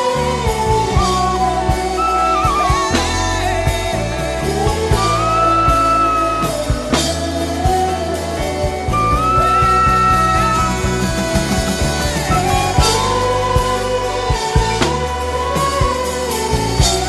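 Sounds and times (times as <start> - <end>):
bass and drums backing: 0.0 - 17.0.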